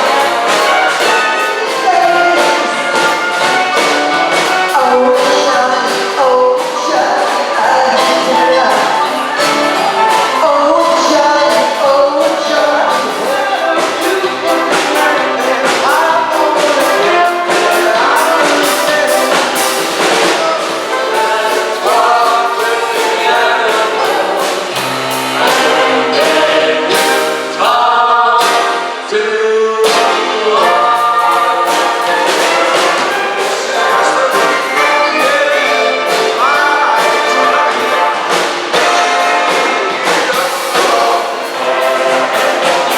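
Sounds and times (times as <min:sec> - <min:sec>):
swing big band playing: 0:00.0 - 0:42.9
trumpets and trombones: 0:00.0 - 0:42.9.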